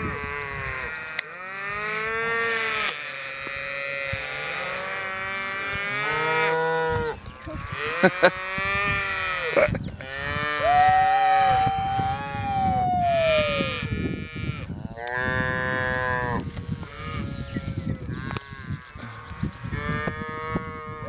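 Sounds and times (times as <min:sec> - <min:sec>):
cows bawling: 0:00.0 - 0:21.0.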